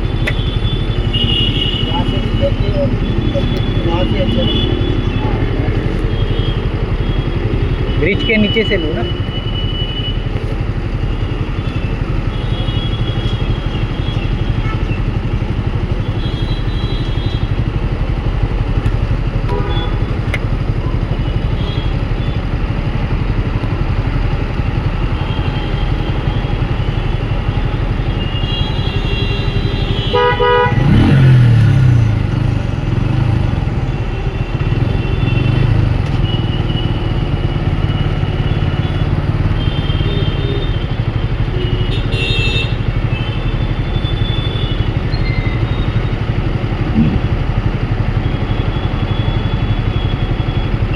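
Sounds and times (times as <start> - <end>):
vehicle horns honking: 0.0 - 18.2, 19.4 - 22.6, 24.8 - 50.9
motorcycle engine running: 0.0 - 50.9
road noise: 0.0 - 50.9.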